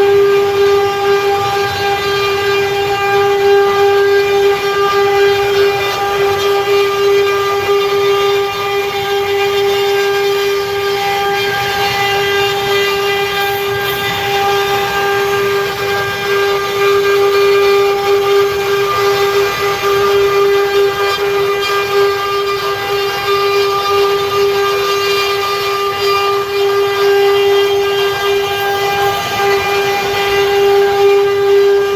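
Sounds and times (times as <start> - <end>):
router spindle whine: 0.0 - 31.9
rushing cutting noise: 0.0 - 31.9.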